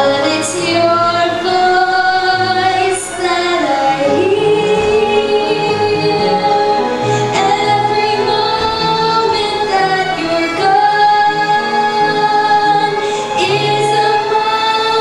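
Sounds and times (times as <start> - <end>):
instrumental accompaniment with bass: 0.0 - 15.0
woman singing: 0.0 - 15.0.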